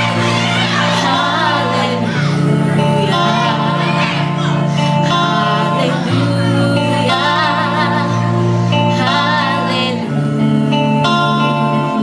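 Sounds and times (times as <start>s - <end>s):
held bass notes: 0.0s - 12.0s
song with singing: 0.0s - 12.0s.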